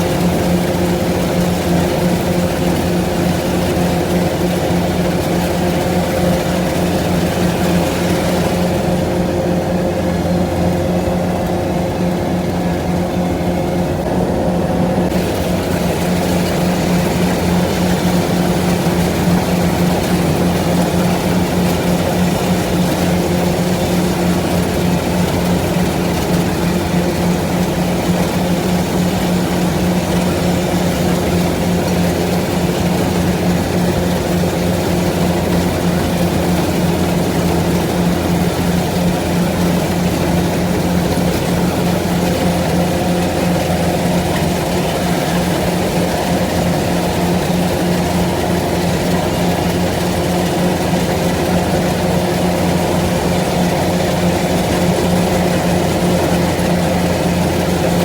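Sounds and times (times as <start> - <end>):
heavy farm machine engine droning: 0.0 - 58.0.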